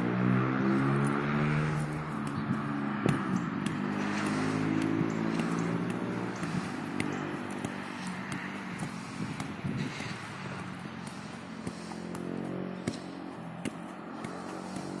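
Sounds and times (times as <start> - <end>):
foot tapping football: 0.7 - 15.0.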